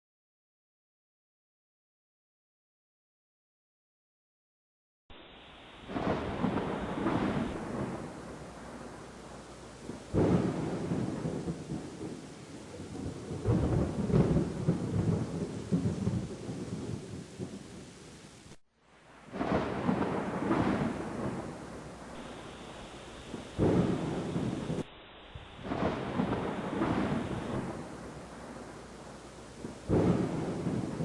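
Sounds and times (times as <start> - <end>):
steady rain: 5.1 - 31.0
thunder rumbling: 5.6 - 31.0.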